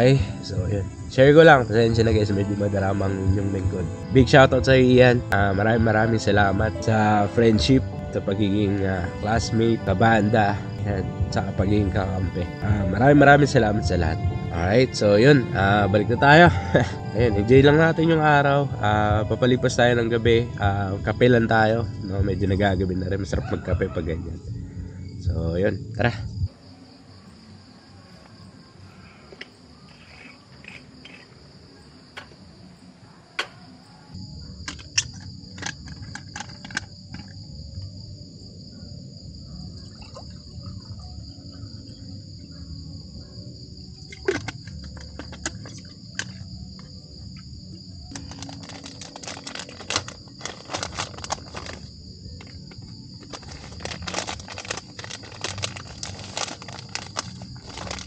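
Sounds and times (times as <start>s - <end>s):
insects and crickets trilling: 0.0s - 58.0s.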